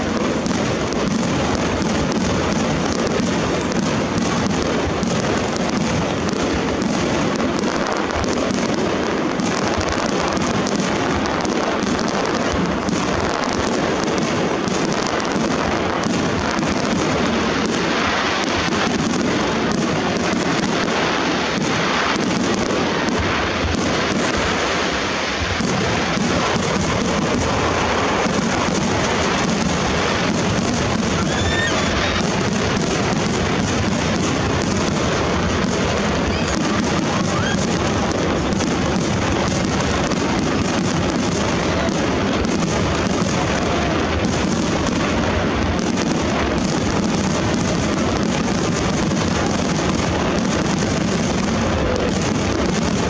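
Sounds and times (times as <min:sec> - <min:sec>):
crackling firework stars: 0:00.0 - 0:53.0
fireworks barrage: 0:00.0 - 0:53.0
sharp firework reports: 0:00.0 - 0:53.0.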